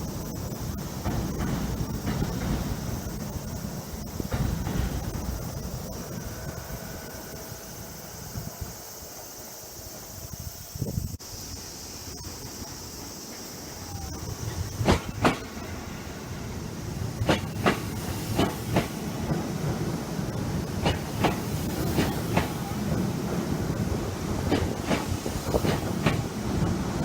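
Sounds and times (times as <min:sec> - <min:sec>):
train wheels clacking over rail joints: 0:00.0 - 0:07.1, 0:12.5 - 0:27.0
train running rumble: 0:00.0 - 0:27.0.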